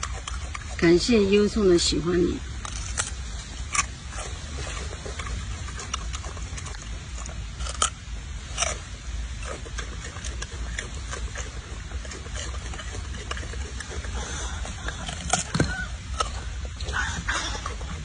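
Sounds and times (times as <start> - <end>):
monkey crunching cucumber: 0.0 - 18.0.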